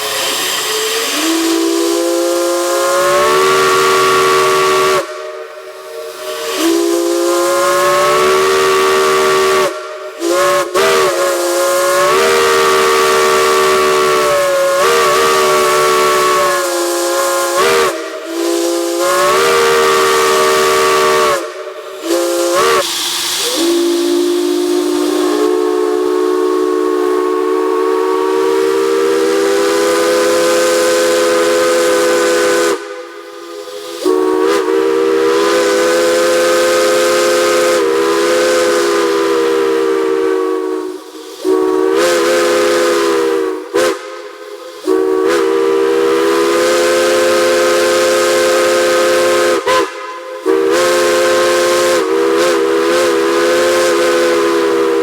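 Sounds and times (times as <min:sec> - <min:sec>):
chime steam whistle blasts: 0:00.0 - 0:55.0
steam hiss: 0:00.0 - 0:55.0.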